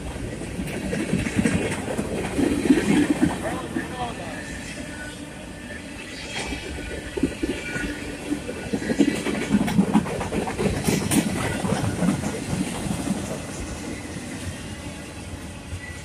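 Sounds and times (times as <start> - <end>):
train cars clanking: 0.0 - 16.0
wheels rumbling on rail: 0.0 - 16.0.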